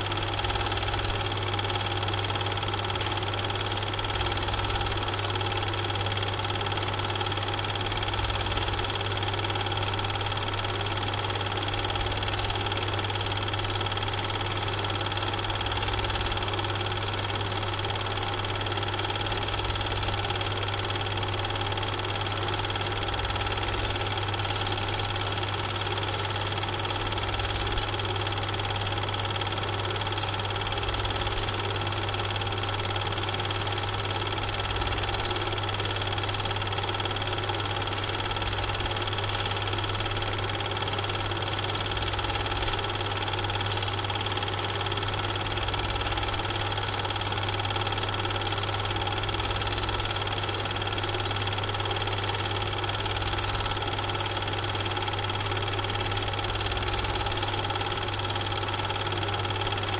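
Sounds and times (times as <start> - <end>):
film projector humming: 0.0 - 59.9.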